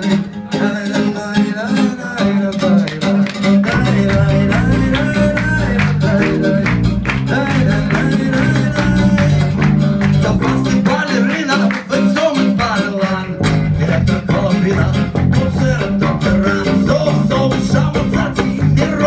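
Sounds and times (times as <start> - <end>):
acoustic guitar: 0.0 - 19.0
electric bass guitar: 0.0 - 19.0
man singing: 0.0 - 19.0.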